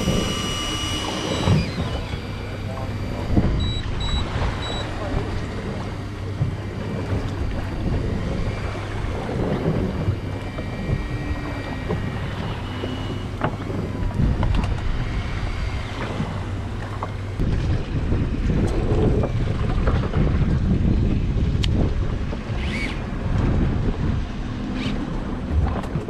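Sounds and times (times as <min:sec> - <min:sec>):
boat engine humming: 0:00.0 - 0:26.0
water washing around hull: 0:00.0 - 0:26.0
wind buffeting microphone: 0:00.0 - 0:26.0.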